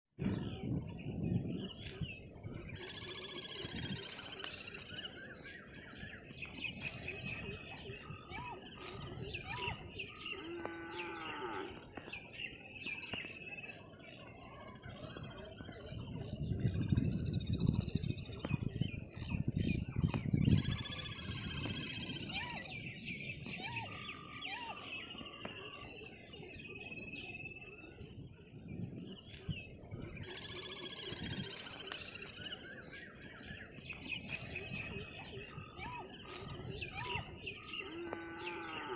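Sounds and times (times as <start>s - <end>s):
birds calling and chirping: 0.2s - 38.9s
high-pitched insect drone: 0.2s - 38.9s
pulsing cricket chirring: 0.2s - 38.9s.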